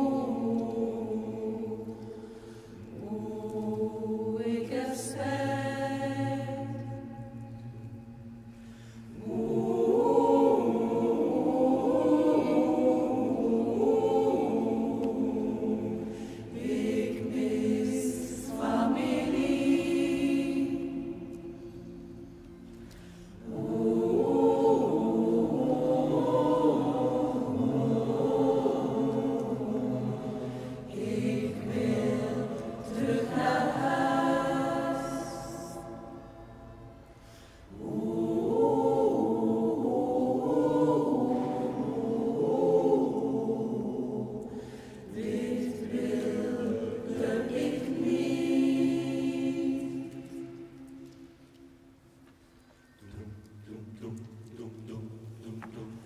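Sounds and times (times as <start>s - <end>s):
mixed choir singing a cappella: 0.0s - 52.0s, 53.0s - 56.0s.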